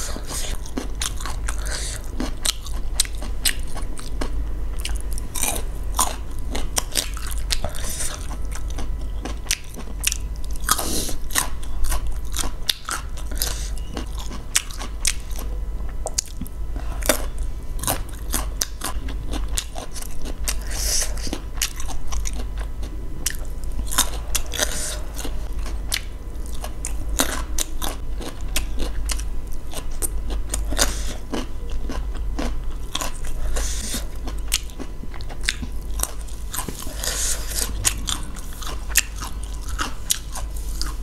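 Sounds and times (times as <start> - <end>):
chewing with wet mouth clicks: 0.1 - 16.5, 17.1 - 41.0.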